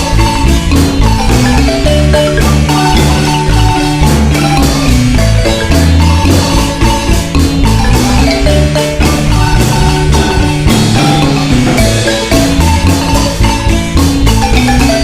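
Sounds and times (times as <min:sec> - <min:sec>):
low bass line: 0:00.0 - 0:15.0
marimba melody: 0:00.0 - 0:15.0.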